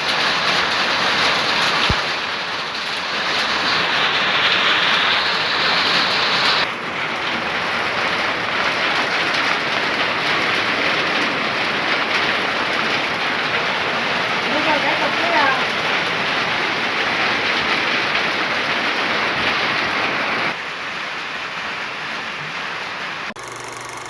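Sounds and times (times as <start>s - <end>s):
torrential rain pouring: 0.0s - 23.4s.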